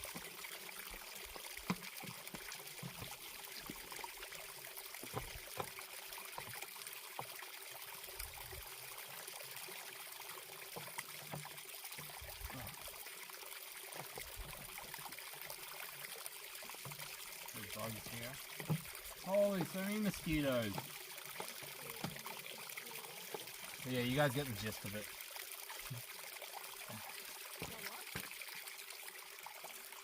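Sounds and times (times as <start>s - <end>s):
stream trickling: 0.0s - 30.0s.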